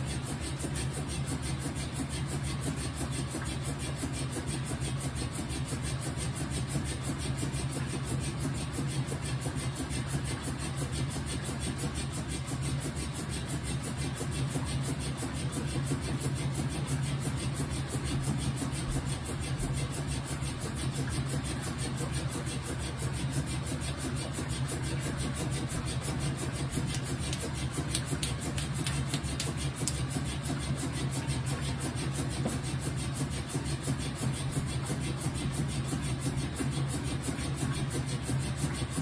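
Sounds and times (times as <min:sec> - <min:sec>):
washing machine churning: 0:00.0 - 0:39.0.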